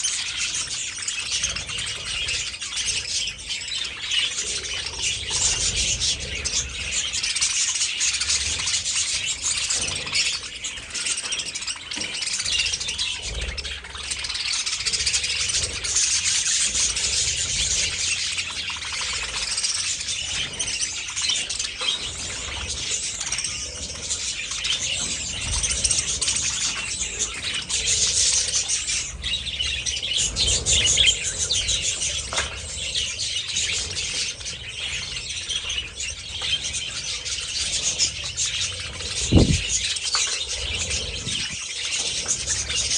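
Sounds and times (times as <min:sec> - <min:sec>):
budgerigars chirping and chattering: 0:00.0 - 0:42.9.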